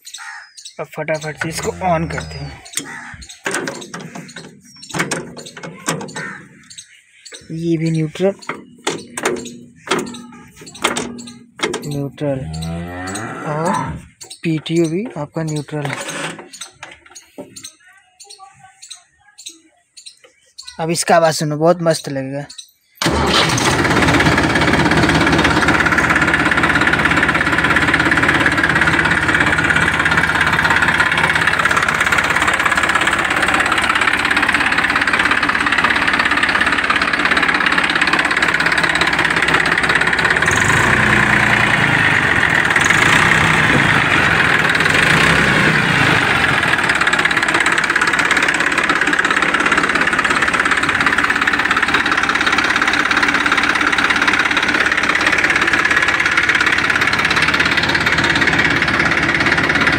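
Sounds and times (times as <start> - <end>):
tractor diesel engine idling: 0.0 - 13.3, 13.9 - 19.4, 20.3 - 59.9.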